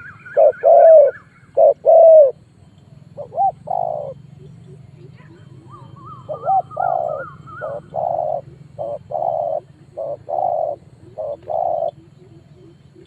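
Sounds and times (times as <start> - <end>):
dove cooing: 0.0 - 13.0
steady low hum: 0.0 - 13.0.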